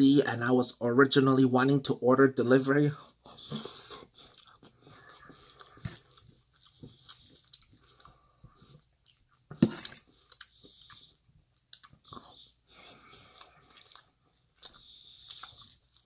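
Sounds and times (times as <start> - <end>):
person chewing food: 3.0 - 16.0.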